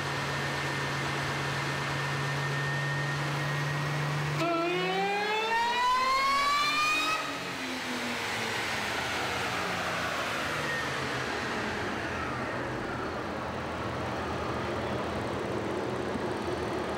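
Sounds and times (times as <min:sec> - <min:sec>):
supercharger whine: 0:00.0 - 0:16.9
car engine winding down: 0:00.1 - 0:16.9.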